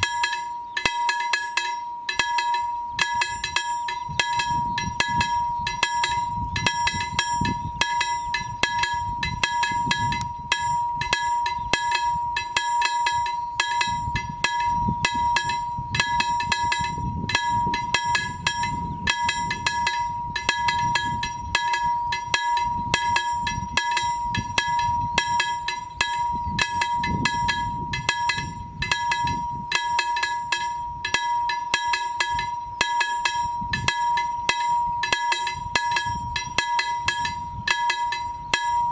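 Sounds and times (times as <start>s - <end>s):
level crossing warning bell: 0.0s - 38.9s
steady high tone: 0.0s - 38.9s.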